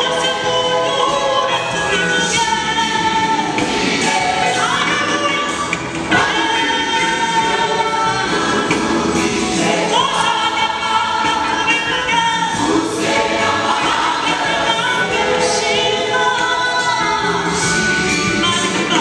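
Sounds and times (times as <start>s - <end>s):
choir singing gospel: 0.0s - 19.0s.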